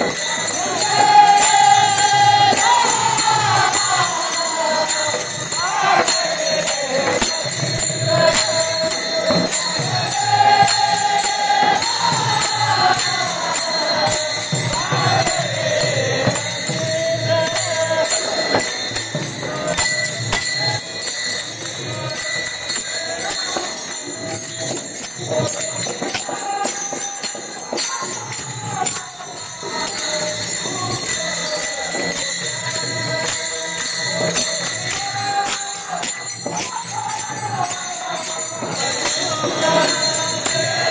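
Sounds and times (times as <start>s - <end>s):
brass hand cymbals clashing: 0.0s - 40.9s
men singing in unison: 0.0s - 40.9s.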